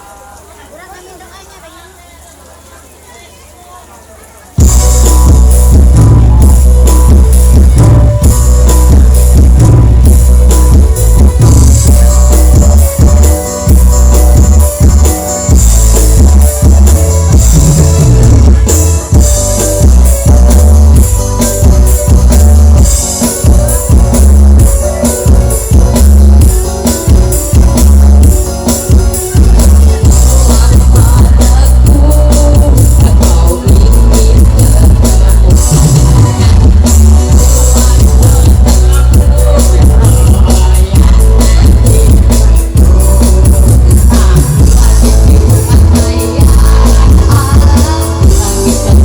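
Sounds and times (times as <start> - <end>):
loud band music: 4.6 - 49.0.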